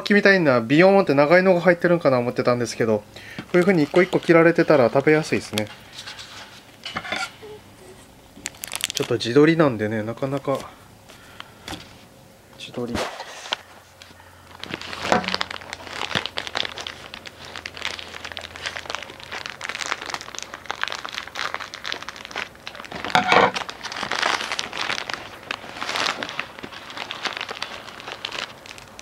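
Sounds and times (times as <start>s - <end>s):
plastic wrappers crinkling: 1.9s - 12.0s, 13.4s - 29.0s.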